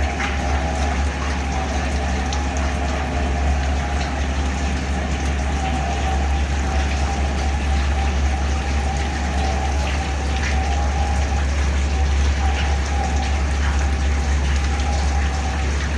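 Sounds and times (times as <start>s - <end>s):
low machinery hum: 0.0s - 15.9s
oil pouring and splashing: 0.0s - 15.9s.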